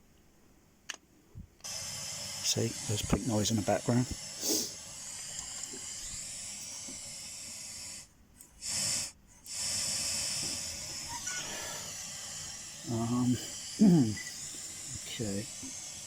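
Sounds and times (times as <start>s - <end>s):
pink noise hiss: 1.5s - 16.0s.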